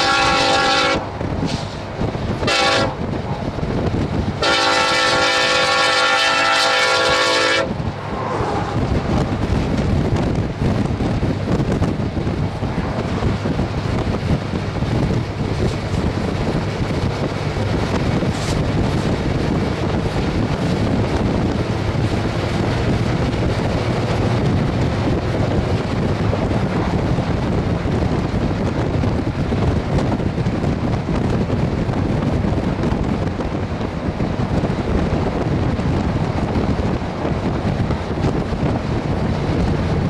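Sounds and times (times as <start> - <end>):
car road noise and drone: 0.0 - 40.0
wind rushing over microphone: 0.0 - 40.0.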